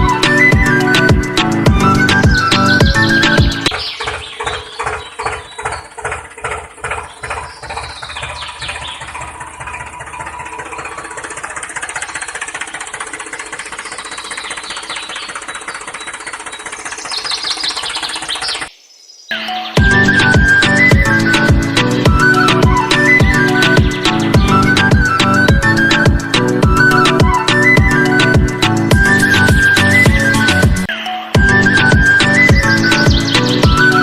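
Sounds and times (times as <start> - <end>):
engine starting and running: 0.0 - 18.7, 19.8 - 34.0.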